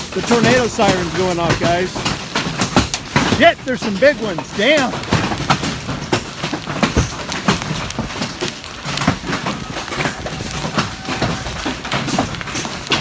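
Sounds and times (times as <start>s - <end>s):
hail on a metal roof: 0.0s - 13.0s
hail pelting ground: 0.0s - 13.0s.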